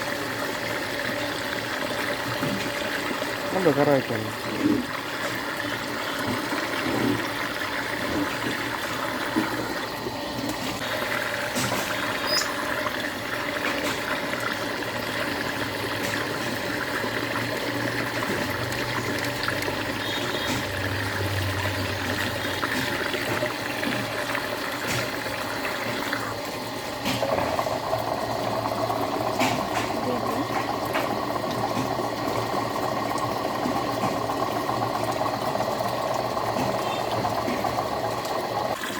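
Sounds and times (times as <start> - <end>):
water swirling and draining: 0.0 - 38.9.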